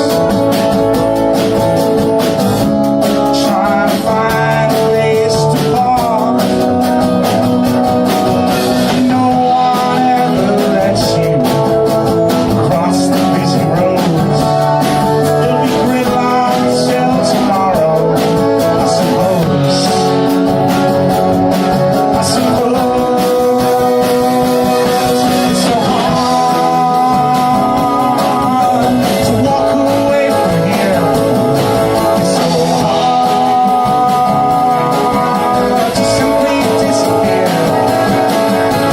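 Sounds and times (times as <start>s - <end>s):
folk band playing: 0.0s - 38.9s
person singing: 0.0s - 38.9s
plucked guitar: 0.0s - 38.9s.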